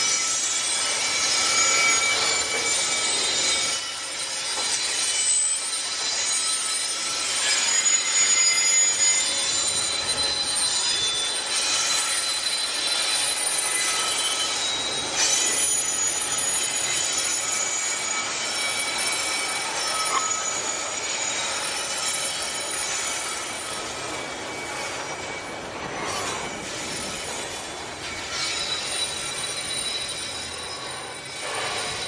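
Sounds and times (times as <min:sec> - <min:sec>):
rattle and rumble of train cars: 0:00.0 - 0:32.0
train wheels squealing on rails: 0:00.0 - 0:32.0.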